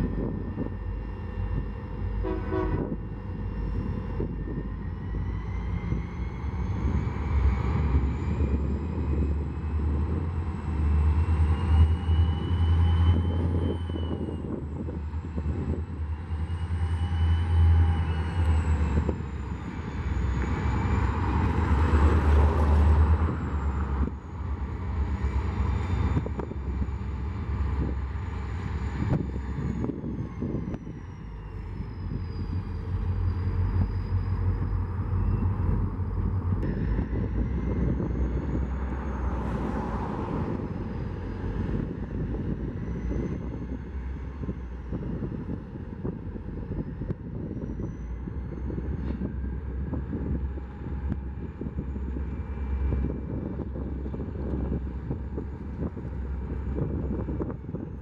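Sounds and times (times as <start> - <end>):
heavy engine rumbling: 0.0 - 58.0
high engine whine: 0.0 - 58.0.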